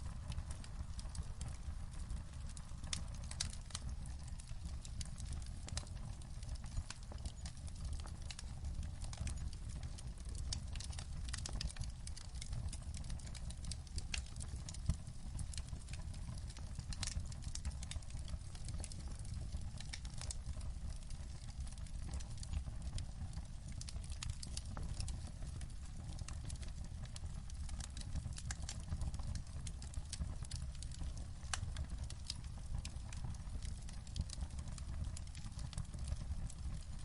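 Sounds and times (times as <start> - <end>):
low fire rumble: 0.0 - 37.0
wood fire crackling: 0.0 - 37.0.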